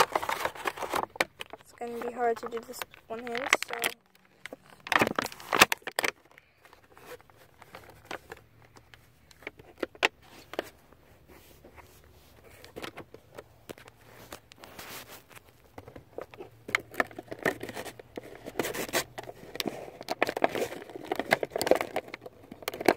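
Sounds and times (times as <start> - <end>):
plastic parts clicking: 0.0 - 10.8, 15.3 - 22.9
packaging crinkling: 0.0 - 22.9.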